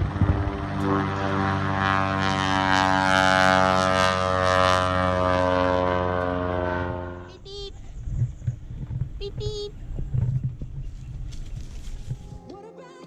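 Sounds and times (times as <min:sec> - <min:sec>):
propeller aircraft engine droning: 0:00.0 - 0:12.4.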